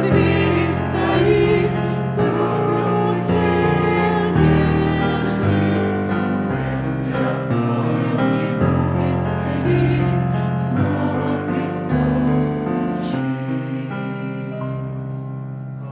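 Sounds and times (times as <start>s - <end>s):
hymn singing: 0.0s - 15.9s
keyboard accompaniment: 0.0s - 15.9s.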